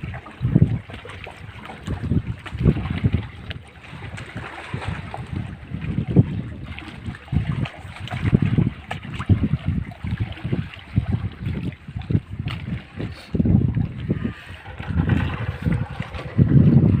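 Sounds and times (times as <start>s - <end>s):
hiss of wind and water: 0.0s - 17.0s
wind buffeting microphone: 0.0s - 17.0s.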